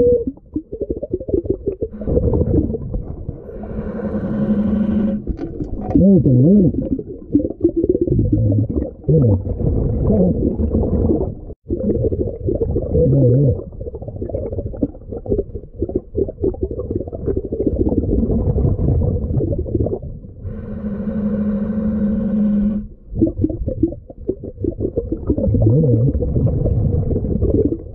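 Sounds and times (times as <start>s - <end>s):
low underwater rumble: 0.0s - 27.9s.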